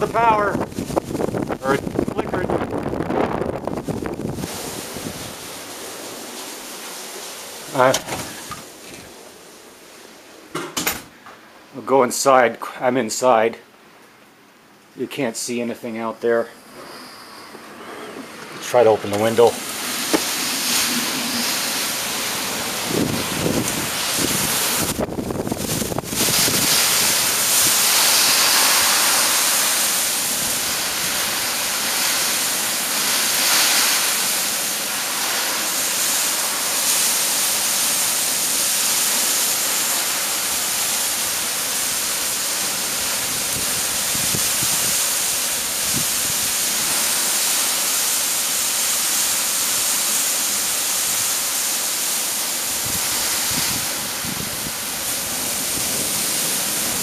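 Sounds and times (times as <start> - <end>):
torrential wind-driven rain: 0.0 - 10.6, 13.8 - 57.0.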